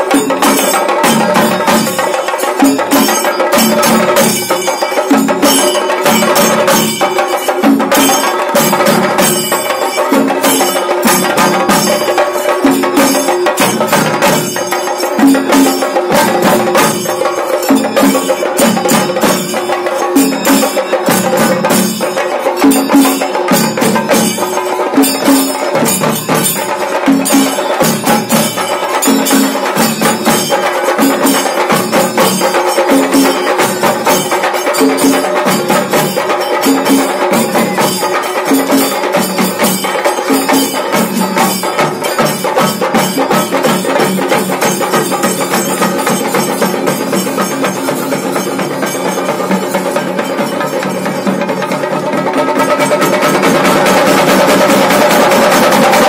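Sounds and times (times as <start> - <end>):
deep accented drum beats: 0.0 - 56.0
drum ensemble playing with sticks: 0.0 - 56.0.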